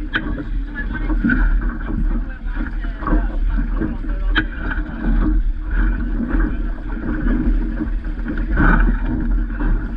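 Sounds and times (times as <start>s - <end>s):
water slapping along boat hull: 0.0s - 9.9s
wind rumble on microphone: 0.0s - 9.9s.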